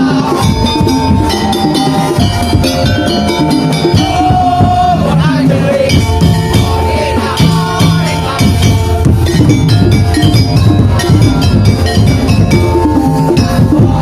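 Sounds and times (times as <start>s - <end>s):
drums beating: 0.0s - 14.0s
ringing metal percussion: 0.0s - 14.0s.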